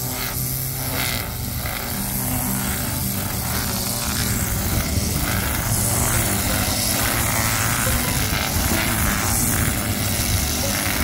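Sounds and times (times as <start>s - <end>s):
brush cutter engine cutting grass: 0.0s - 11.0s.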